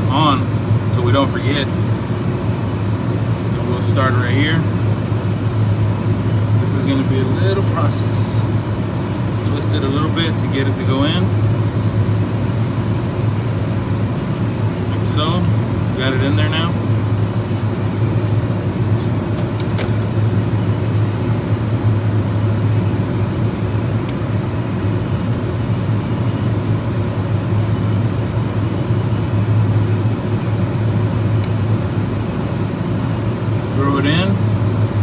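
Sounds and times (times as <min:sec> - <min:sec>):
machinery drone: 0:00.0 - 0:35.0.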